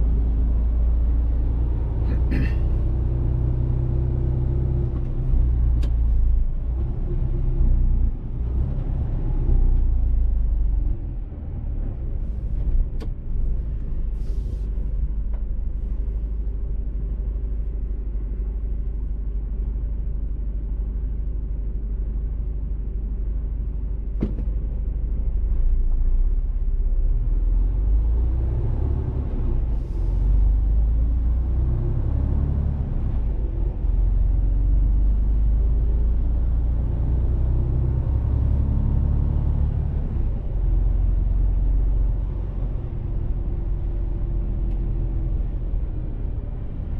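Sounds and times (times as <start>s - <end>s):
truck engine and road noise: 0.0s - 46.9s.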